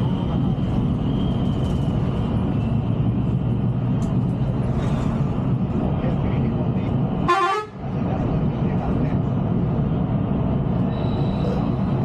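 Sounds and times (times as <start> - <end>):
bus diesel engine drone: 0.0 - 12.0
tyres on road: 0.0 - 12.0.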